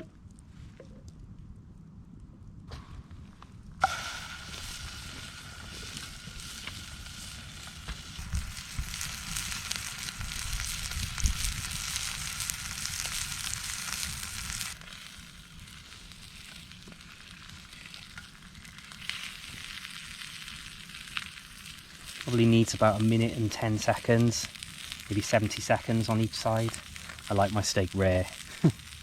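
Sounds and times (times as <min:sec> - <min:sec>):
steak sizzling in a pan: 0:03.8 - 0:29.0.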